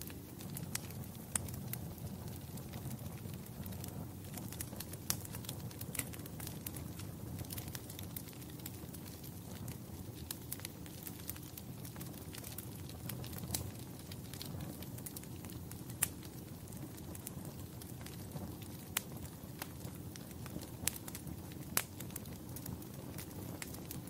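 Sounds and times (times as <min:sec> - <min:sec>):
fire crackles and pops: 0:00.0 - 0:24.0
fire rumbling: 0:00.0 - 0:24.0.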